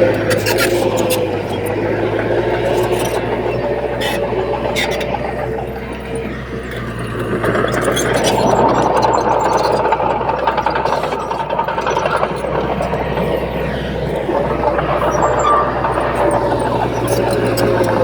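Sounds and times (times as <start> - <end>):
continuous machine whine: 0.0 - 18.0
diesel earthmoving machinery: 0.0 - 18.0.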